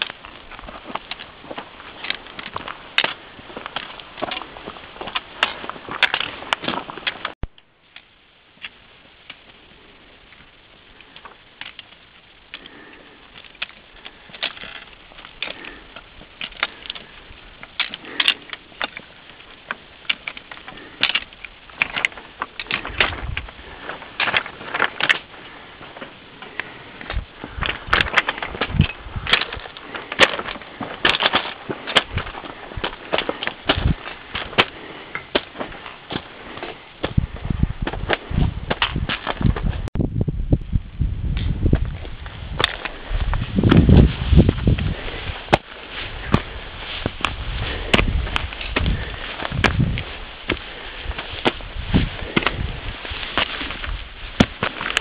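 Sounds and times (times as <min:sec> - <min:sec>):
footsteps crunching on gravel: 0:00.0 - 0:07.4, 0:12.6 - 0:39.9, 0:41.4 - 0:55.0
boots clicking on rock: 0:00.0 - 0:40.0, 0:41.2 - 0:55.0.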